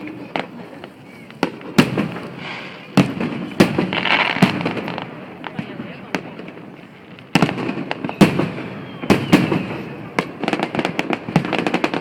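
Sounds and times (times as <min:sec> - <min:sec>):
fireworks bangs: 0:00.0 - 0:12.0
fireworks crackling pops: 0:00.0 - 0:12.0.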